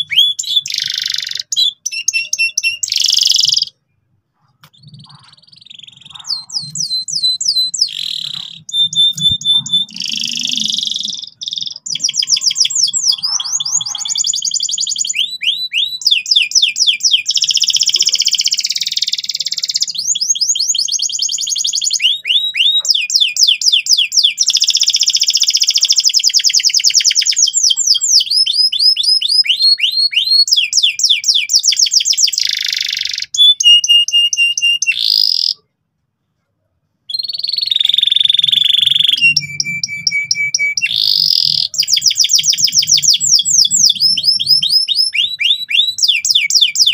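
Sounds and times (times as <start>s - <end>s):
canary singing trills: 0.0s - 35.7s, 37.1s - 46.9s.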